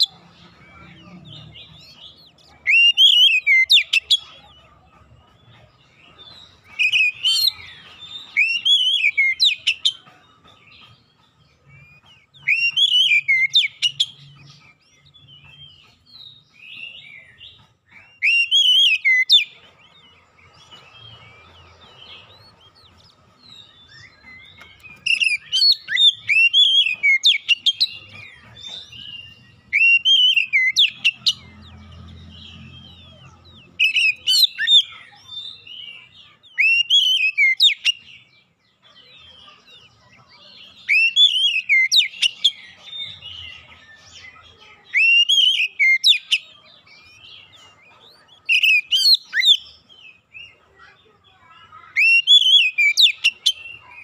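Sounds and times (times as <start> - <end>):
bird singing whistles and chirps: 0.0 - 4.3, 6.2 - 38.4, 40.7 - 50.5.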